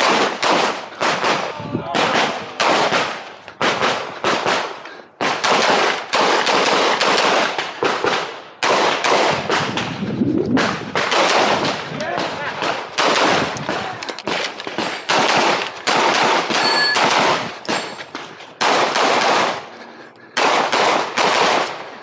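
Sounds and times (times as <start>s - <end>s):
pistol shots echoing: 0.0s - 9.9s, 10.6s - 19.7s, 20.3s - 22.0s.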